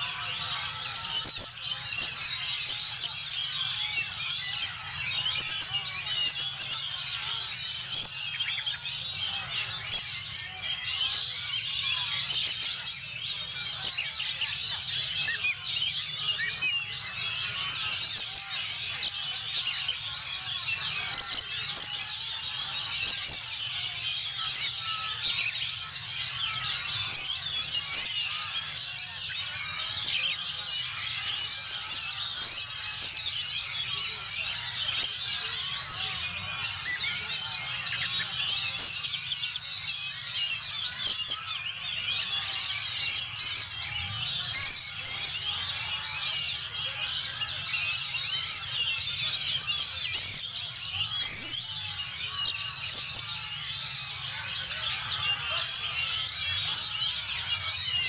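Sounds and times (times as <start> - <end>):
chorus of songbirds singing: 0.0 - 58.0.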